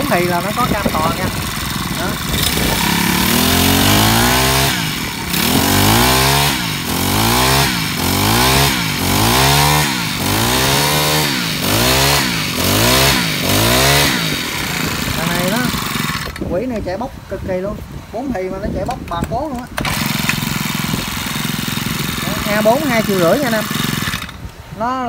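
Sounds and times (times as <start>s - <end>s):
brush cutter engine revving: 0.0s - 17.0s, 18.8s - 24.8s.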